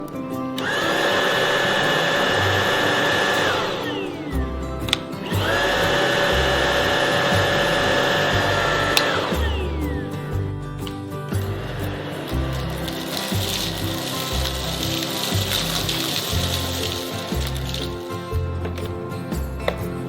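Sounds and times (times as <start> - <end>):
vacuum cleaner motor whining: 0.0 - 20.0.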